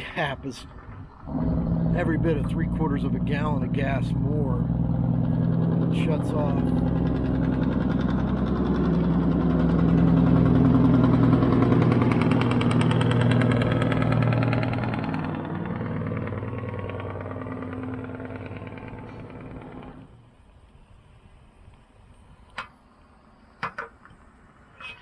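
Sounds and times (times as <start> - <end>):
vehicle engine running: 0.0 - 20.3.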